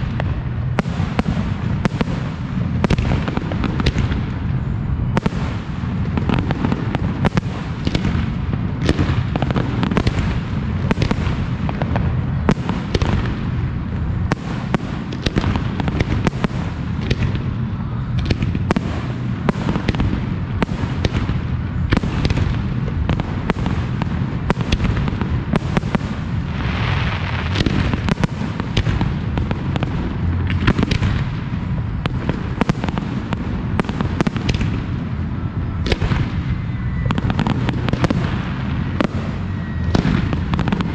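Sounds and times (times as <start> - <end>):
fireworks hissing: 0.0 - 40.9.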